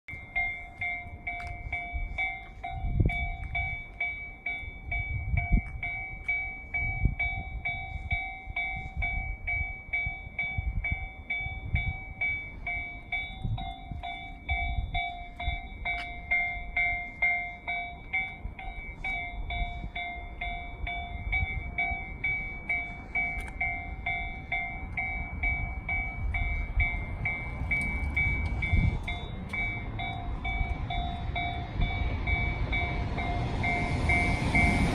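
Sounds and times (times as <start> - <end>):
freight train rumbling past: 0.1 - 34.9
level crossing electronic bell: 0.1 - 34.9.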